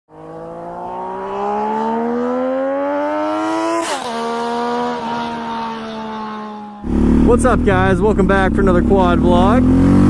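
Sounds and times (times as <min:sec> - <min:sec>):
engine accelerating hard: 0:00.1 - 0:10.0.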